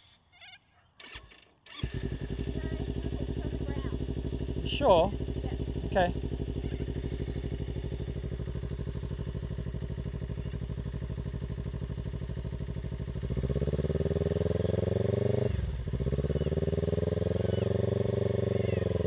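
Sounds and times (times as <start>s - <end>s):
motorcycle engine revving: 1.0s - 19.0s.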